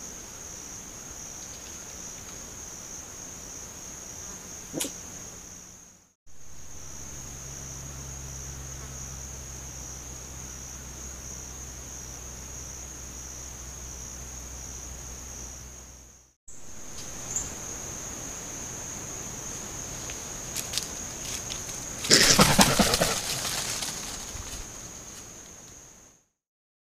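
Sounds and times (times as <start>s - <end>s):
insects chorus: 0.0s - 26.3s.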